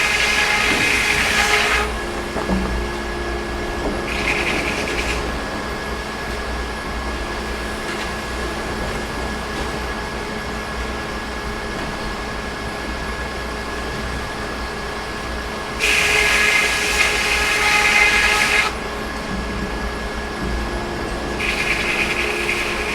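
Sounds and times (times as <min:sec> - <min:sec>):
sawmill machinery humming: 0:00.0 - 0:22.9.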